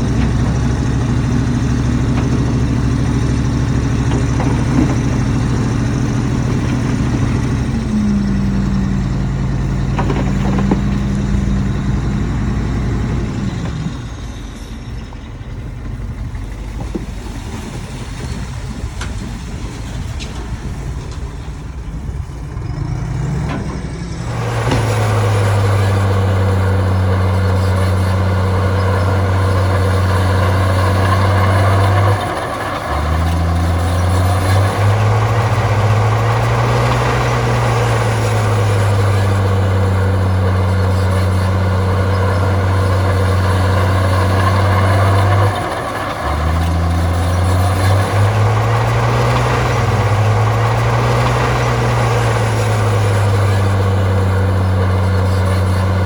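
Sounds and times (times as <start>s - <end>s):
engine low drone: 0.0s - 56.0s
heavy diesel machinery running: 0.0s - 56.0s.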